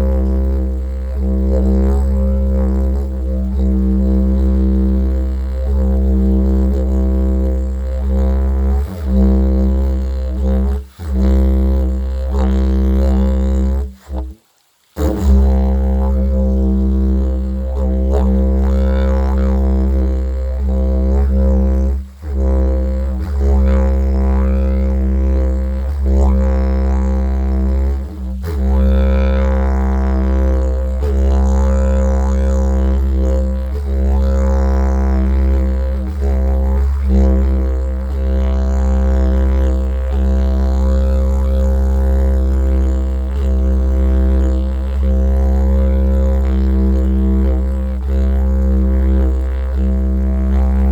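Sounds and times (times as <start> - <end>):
didgeridoo drone: 0.0 - 14.4, 15.0 - 50.9.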